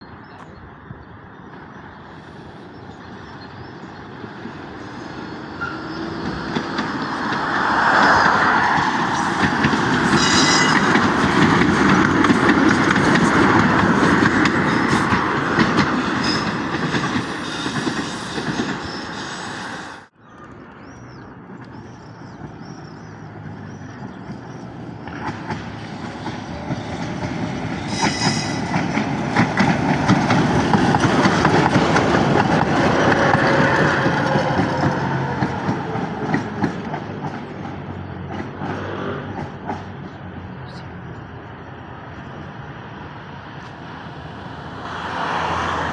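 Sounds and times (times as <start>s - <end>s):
tram wheel and rail noise: 0.0s - 45.9s.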